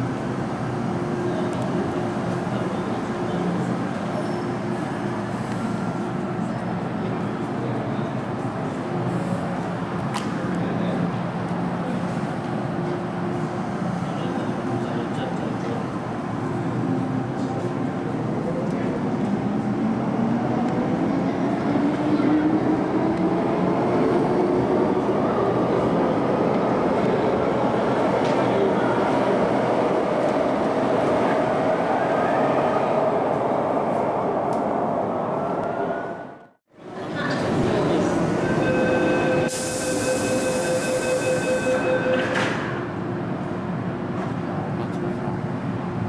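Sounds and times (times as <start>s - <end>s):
train rushing through station: 0.0s - 46.0s.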